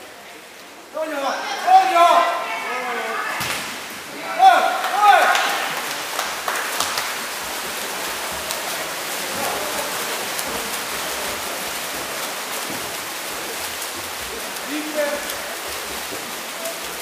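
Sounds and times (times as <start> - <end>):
water splashing in a pool: 0.0 - 17.0.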